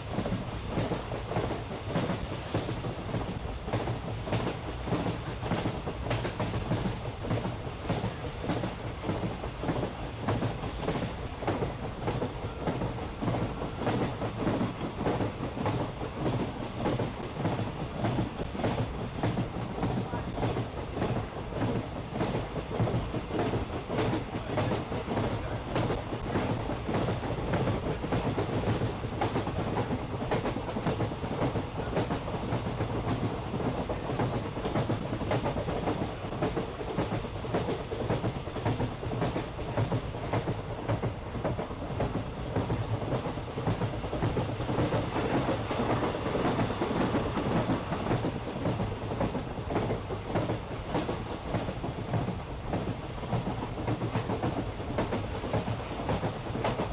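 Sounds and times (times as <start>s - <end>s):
train wheels clicking on rails: 0.0s - 56.9s.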